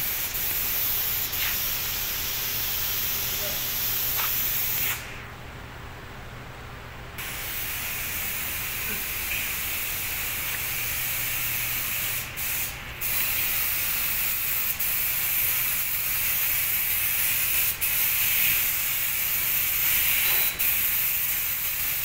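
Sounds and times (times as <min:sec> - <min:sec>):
paint spray gun hissing: 0:00.0 - 0:05.2, 0:07.2 - 0:22.0.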